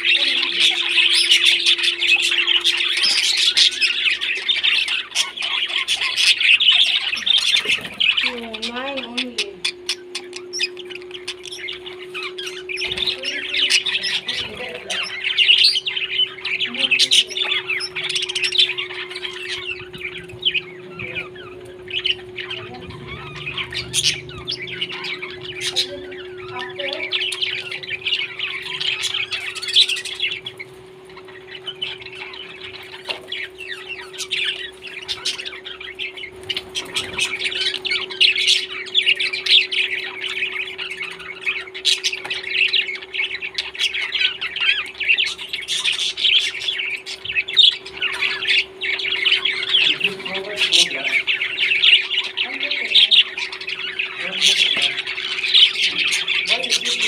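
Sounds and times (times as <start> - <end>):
parrots chattering and squawking: 0.0 - 57.0
steady low hum: 0.0 - 57.0.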